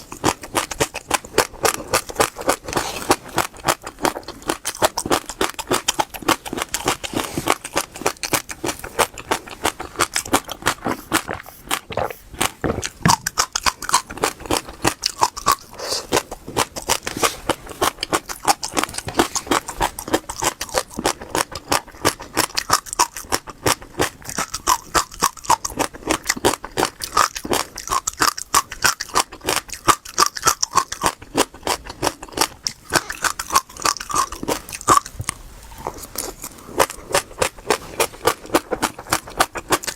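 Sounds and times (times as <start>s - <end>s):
chewing crunchy seeds: 0.0s - 39.9s.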